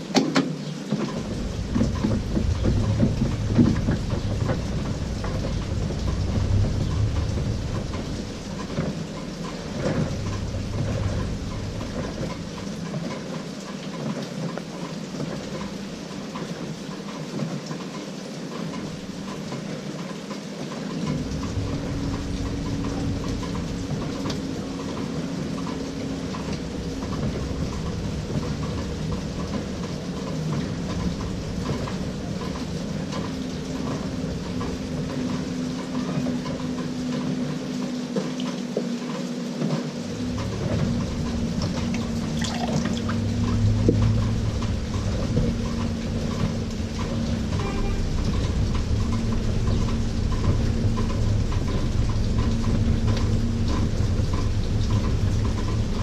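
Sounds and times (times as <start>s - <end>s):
wash water sloshing: 0.0s - 56.0s
washing machine motor humming: 0.0s - 56.0s.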